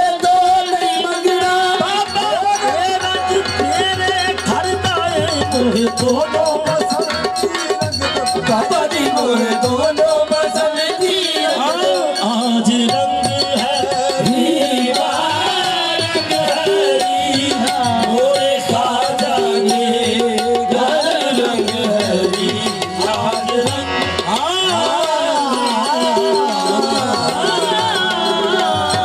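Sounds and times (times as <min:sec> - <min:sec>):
devotional music with tabla: 0:00.0 - 0:29.0.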